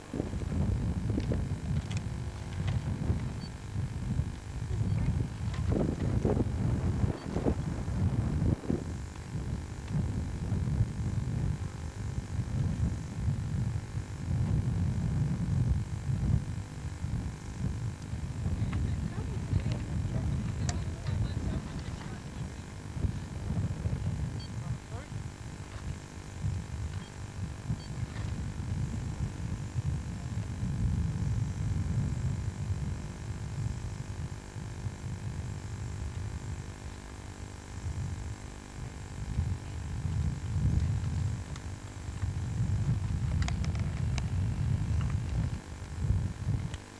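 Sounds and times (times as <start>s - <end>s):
wind buffeting microphone: 0.0s - 37.0s, 37.8s - 46.9s
faint steady hum: 0.0s - 46.9s.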